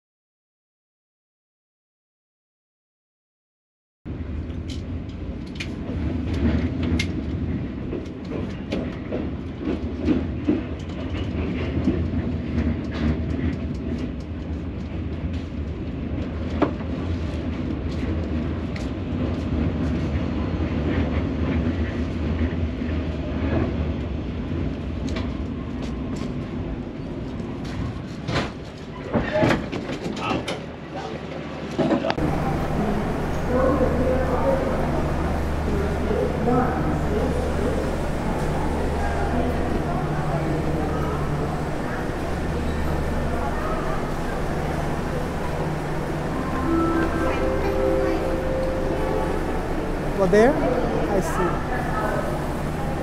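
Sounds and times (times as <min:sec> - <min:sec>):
train rumbling on rails: 0:04.1 - 0:53.0.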